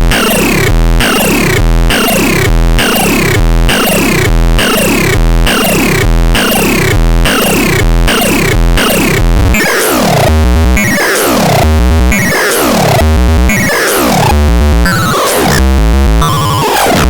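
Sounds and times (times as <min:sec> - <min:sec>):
pulsing synthesizer bass note: 0:00.0 - 0:17.0.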